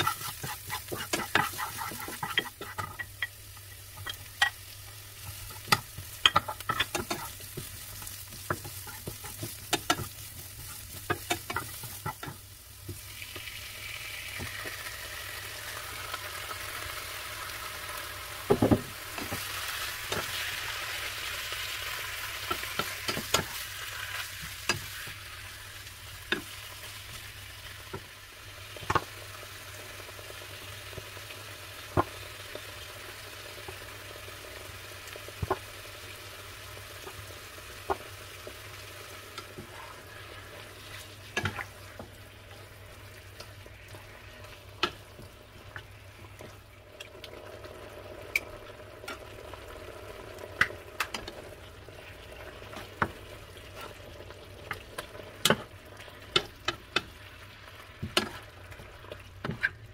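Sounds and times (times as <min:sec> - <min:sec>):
chicken and onion sizzling in a pan: 0:00.0 - 0:59.9.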